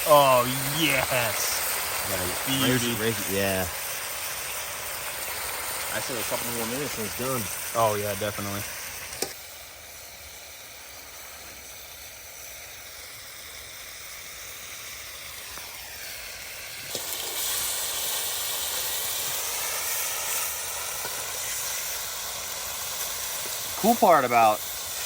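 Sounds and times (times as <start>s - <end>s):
chicken sizzling in a wok: 0.0s - 25.0s.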